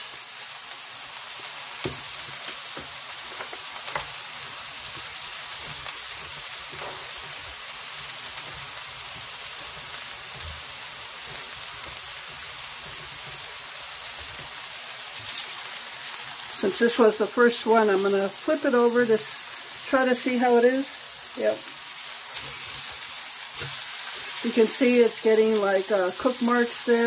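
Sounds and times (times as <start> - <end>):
burger patties sizzling: 0.0 - 27.0.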